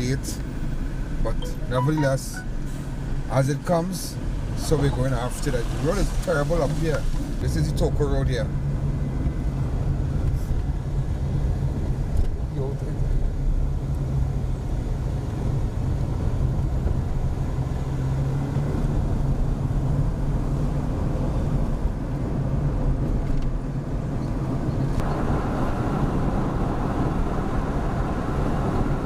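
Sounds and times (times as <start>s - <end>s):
road and rattle noise: 0.0s - 1.4s, 2.2s - 29.0s
vehicle engine hum: 0.0s - 29.0s.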